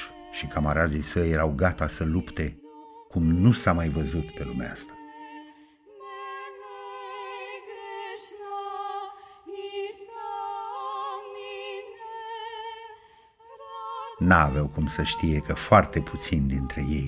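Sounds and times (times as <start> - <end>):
singing with vibrato: 0.0 - 17.0.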